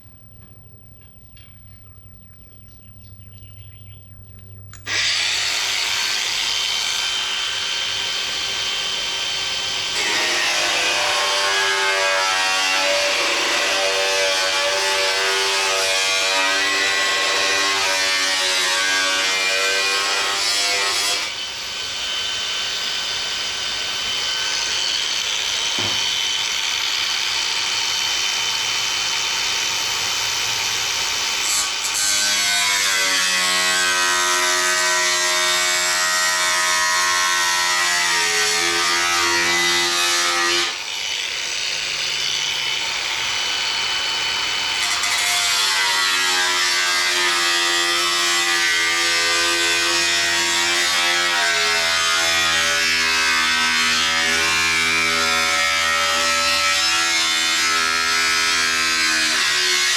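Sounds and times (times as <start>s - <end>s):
power tool cutting sheet metal: 4.8s - 59.9s.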